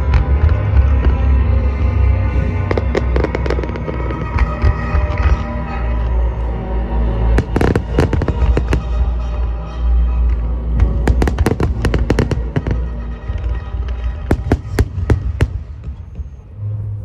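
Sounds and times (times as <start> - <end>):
fireworks bursting with crackling: 0.0 - 6.6, 7.2 - 9.6, 10.2 - 16.6
deep rumble: 0.0 - 17.0
orchestral music over loudspeakers: 0.0 - 17.0.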